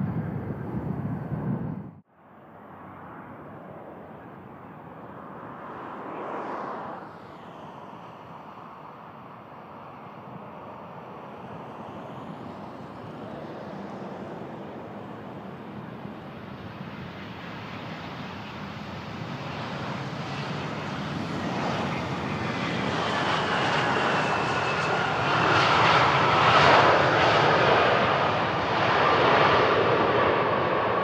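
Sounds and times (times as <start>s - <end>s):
jet engine roar with whine: 0.0s - 31.0s.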